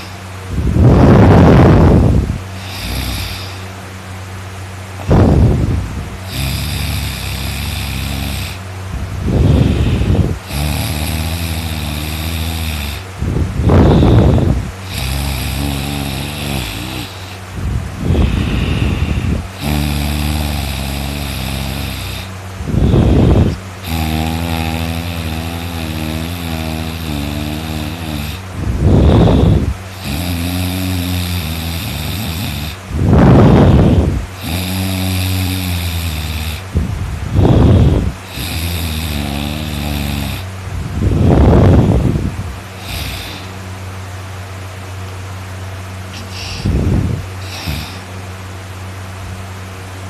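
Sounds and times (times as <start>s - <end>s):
person snoring loudly: 0.0s - 3.8s, 5.0s - 43.6s, 46.1s - 48.2s
breathy gusts: 0.0s - 43.8s, 46.1s - 48.3s.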